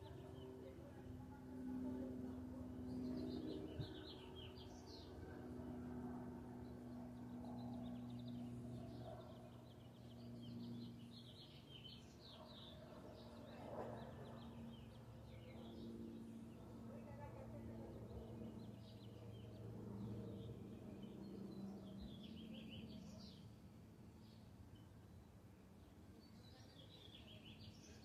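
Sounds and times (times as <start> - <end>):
faint low hum: 0.0 - 28.0
small birds chirping: 0.0 - 28.0.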